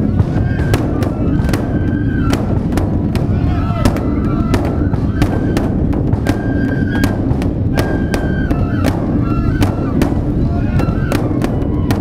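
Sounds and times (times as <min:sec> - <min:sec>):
bamboo flute high notes: 0:00.0 - 0:02.5, 0:03.6 - 0:12.0
large drum and stick drums beating: 0:00.0 - 0:12.0.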